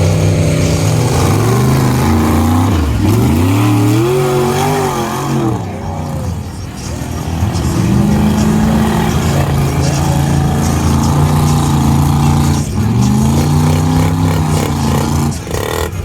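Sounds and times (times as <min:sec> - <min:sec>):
truck engine at high revs: 0:00.0 - 0:16.0.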